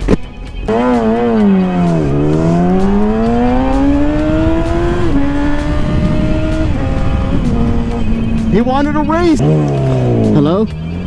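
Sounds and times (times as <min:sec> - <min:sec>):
motorcycle engine accelerating: 0:00.6 - 0:11.0.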